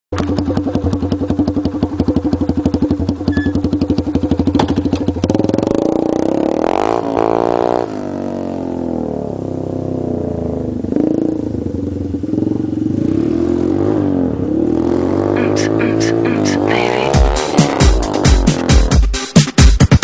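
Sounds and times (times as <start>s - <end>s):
dirt bike engine idling and revving: 0.1s - 19.2s.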